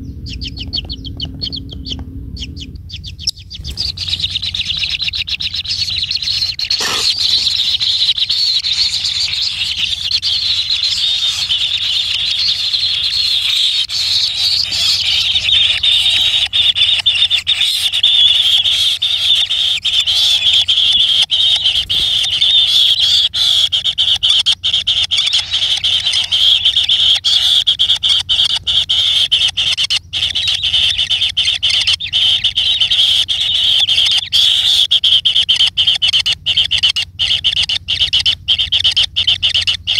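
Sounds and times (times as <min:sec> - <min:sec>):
high-pitched rasping animal call: 0:01.4 - 0:39.9.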